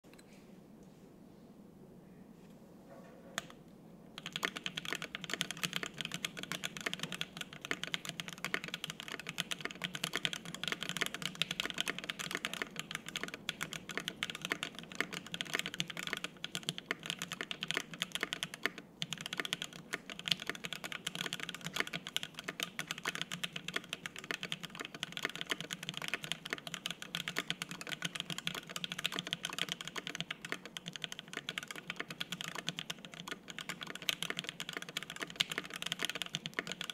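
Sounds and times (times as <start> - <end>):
fast mechanical keyboard typing: 4.2 - 36.9.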